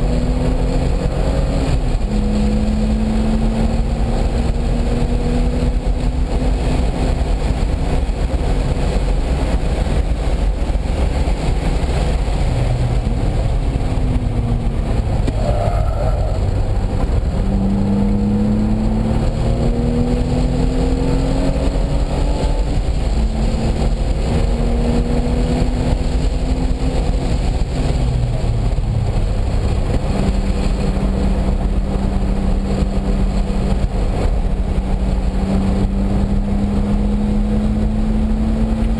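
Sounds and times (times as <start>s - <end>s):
car engine accelerating hard: 0.0s - 38.9s
road and wind noise: 0.0s - 38.9s.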